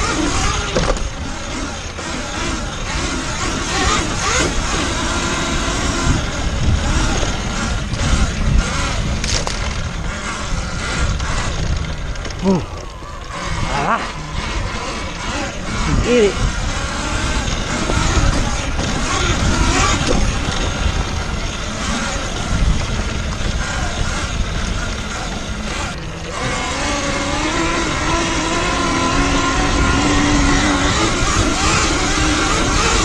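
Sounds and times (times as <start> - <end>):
electric motor whining: 0.0 - 33.0
tyres on sandy dirt trail: 0.0 - 33.0
wind buffeting microphone: 0.0 - 33.0.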